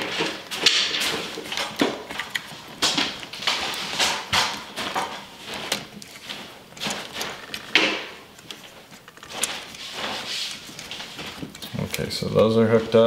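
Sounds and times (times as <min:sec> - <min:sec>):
screwdriver scraping and clicking: 0:00.0 - 0:12.1.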